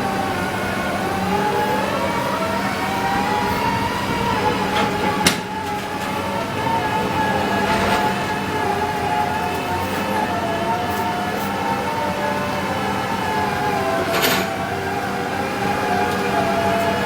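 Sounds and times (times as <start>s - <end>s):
piling rig engine humming: 0.0s - 17.0s.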